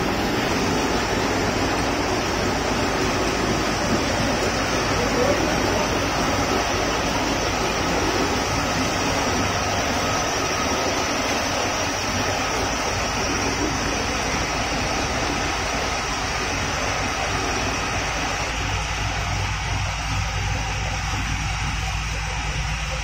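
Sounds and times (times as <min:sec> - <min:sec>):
rotating metal drum droning: 0:00.0 - 0:23.0.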